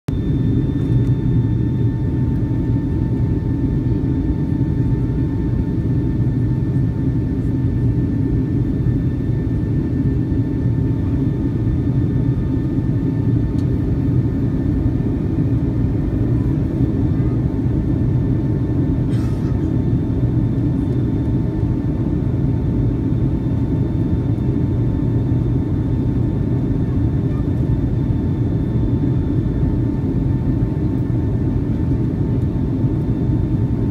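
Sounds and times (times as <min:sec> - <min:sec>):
faint steady whine: 0:00.1 - 0:33.9
jet engines rumbling in cabin: 0:00.1 - 0:33.9.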